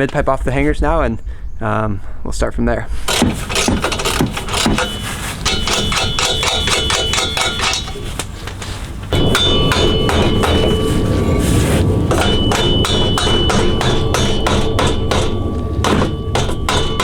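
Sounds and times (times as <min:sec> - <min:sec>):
metal exhaust pipe clanking: 0:03.0 - 0:17.0
rapid regular metal strikes: 0:03.1 - 0:17.0.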